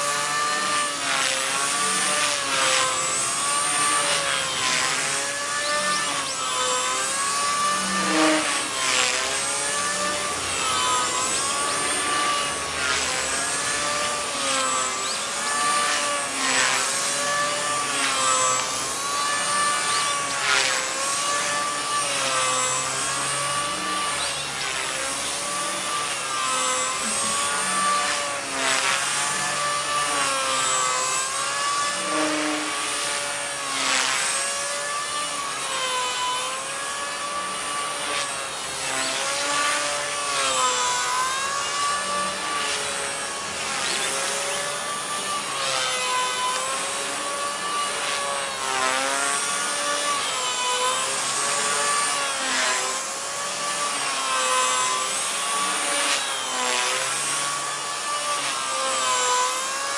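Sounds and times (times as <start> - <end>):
rc helicopter motor whine: 0.0 - 59.9.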